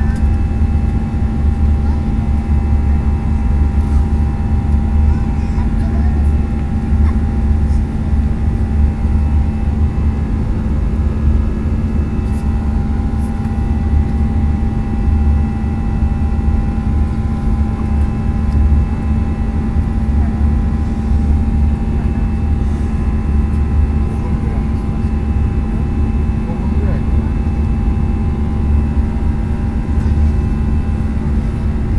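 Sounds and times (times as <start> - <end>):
airliner cabin engine drone: 0.0 - 31.9.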